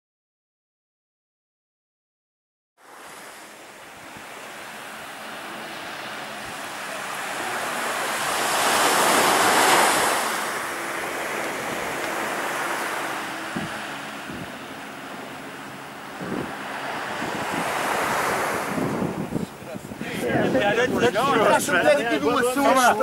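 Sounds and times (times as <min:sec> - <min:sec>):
small surf breaking on beach: 0:02.8 - 0:23.0
wind on microphone: 0:03.2 - 0:22.3.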